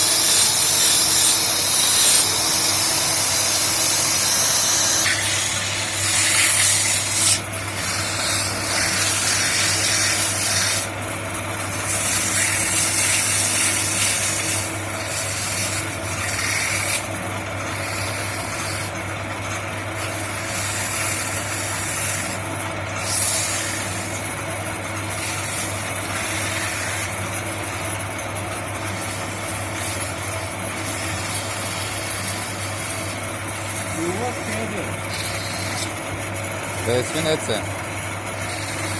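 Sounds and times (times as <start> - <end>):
rasping cutting on wood: 0.0 - 11.0, 11.6 - 28.0, 28.8 - 38.9
motor hum: 0.0 - 38.9.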